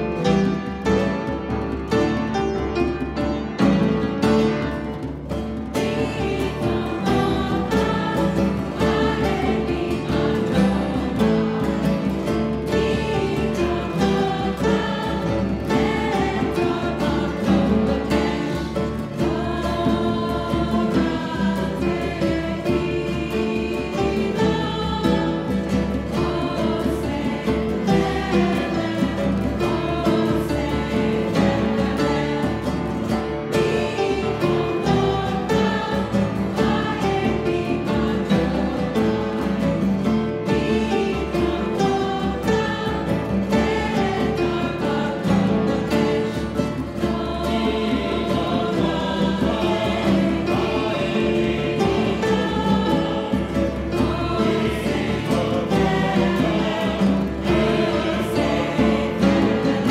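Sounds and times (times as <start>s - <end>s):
acoustic guitar: 0.0s - 59.9s
mixed choir singing: 0.0s - 59.9s.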